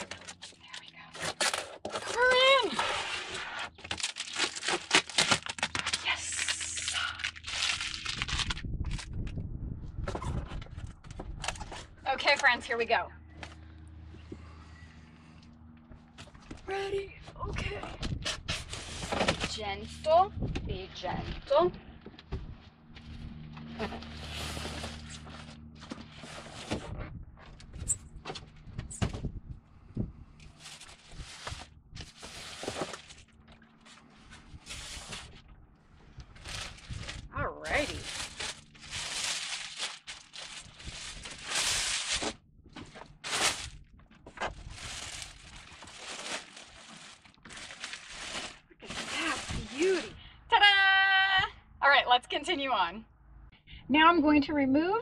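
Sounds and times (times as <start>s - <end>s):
packaging rustling and scraping: 0.0s - 12.8s, 16.1s - 29.2s, 30.4s - 50.1s.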